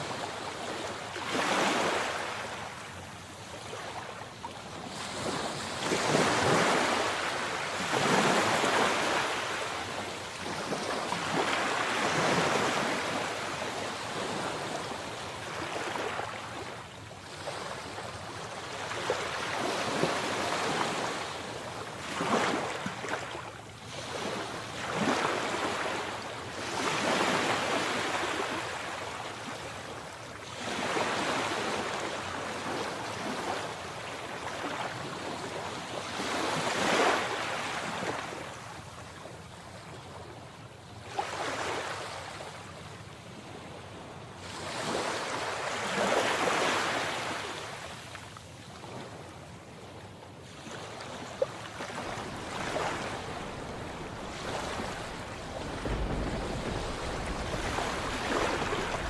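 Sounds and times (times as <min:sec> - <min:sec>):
sea waves breaking: 0:04.7 - 0:38.4, 0:44.4 - 0:49.9, 0:50.5 - 0:59.0.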